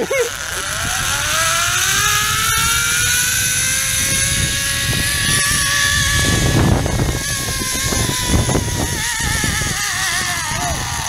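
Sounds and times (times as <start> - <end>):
wind buffeting microphone: 0.0 - 11.0
zipline pulleys whining on cable: 0.0 - 11.0.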